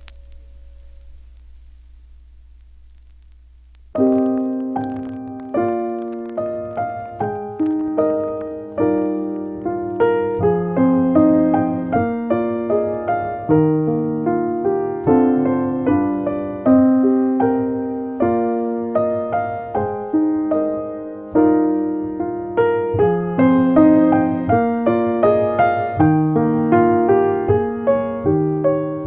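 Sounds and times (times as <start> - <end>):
gentle piano melody: 3.9 - 29.0.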